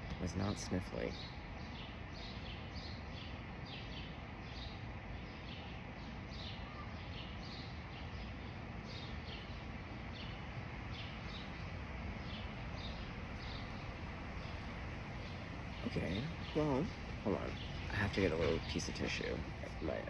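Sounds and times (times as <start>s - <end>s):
birds chirping: 0.0s - 20.0s
low background rumble: 0.0s - 20.0s.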